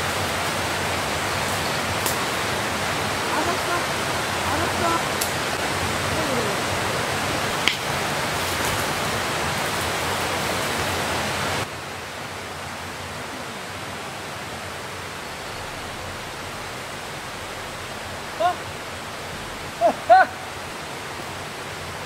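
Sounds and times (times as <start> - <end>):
stream water flowing: 0.0 - 22.0.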